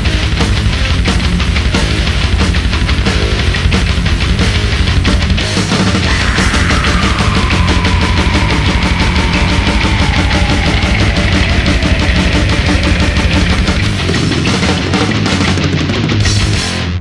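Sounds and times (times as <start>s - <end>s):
death metal music: 0.0s - 17.0s.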